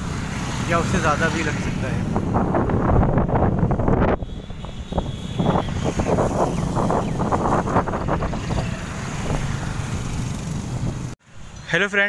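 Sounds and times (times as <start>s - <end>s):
road traffic passing: 0.0s - 12.0s
wind buffeting microphone: 1.5s - 11.2s.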